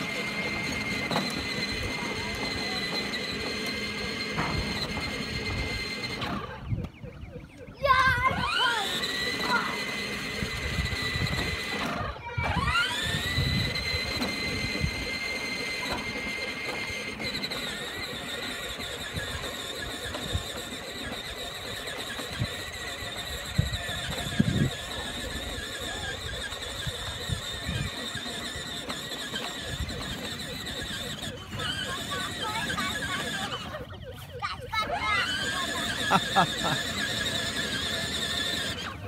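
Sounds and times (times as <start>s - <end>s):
toy motorcycle motor whining: 0.0s - 39.0s.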